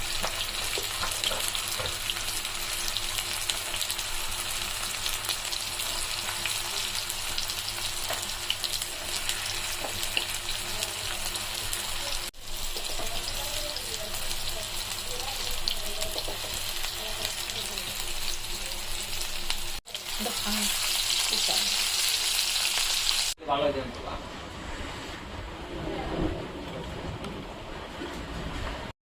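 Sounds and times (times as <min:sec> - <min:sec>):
food frying in hot oil: 0:00.0 - 0:23.4.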